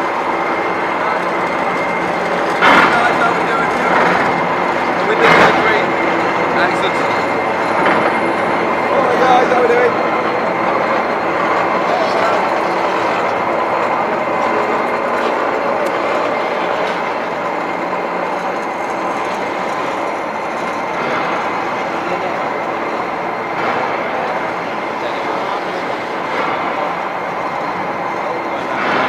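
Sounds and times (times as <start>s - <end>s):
crowd murmur in echoing hall: 0.0s - 29.0s
railway turntable rumbling: 0.0s - 29.0s.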